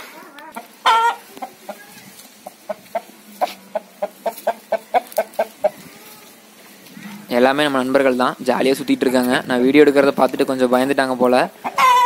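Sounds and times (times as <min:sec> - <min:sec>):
chicken clucking: 0:00.0 - 0:10.5, 0:11.2 - 0:12.0.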